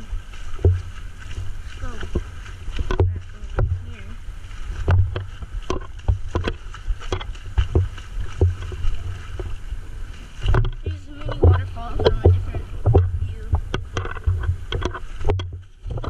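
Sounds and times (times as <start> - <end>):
knocks and low thumps: 0.0 - 16.0
river water splashing: 0.0 - 16.0.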